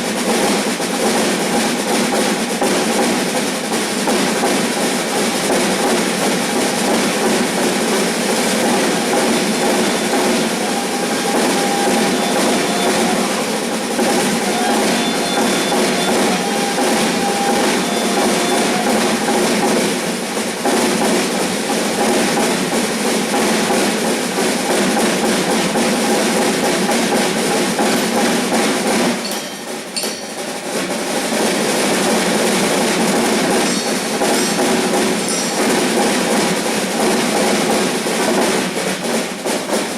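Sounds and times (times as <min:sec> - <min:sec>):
percussion ensemble drumming: 0:00.0 - 0:39.9.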